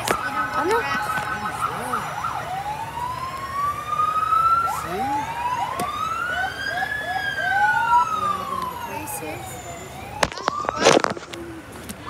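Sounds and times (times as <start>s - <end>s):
fire truck siren wailing: 0.0s - 12.0s.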